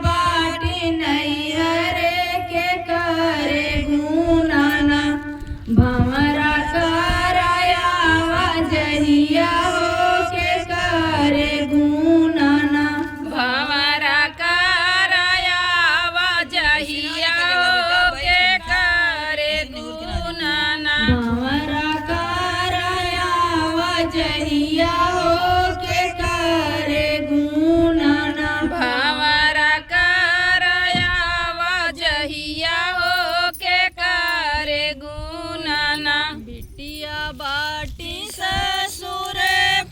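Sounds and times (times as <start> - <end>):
woman singing long held notes: 0.0 - 39.9.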